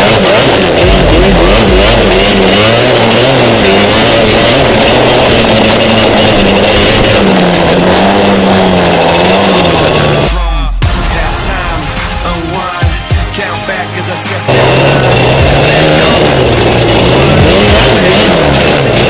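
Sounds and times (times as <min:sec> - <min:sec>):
quad bike engine revving: 0:00.0 - 0:10.8, 0:11.5 - 0:19.0
music playing: 0:00.0 - 0:19.0.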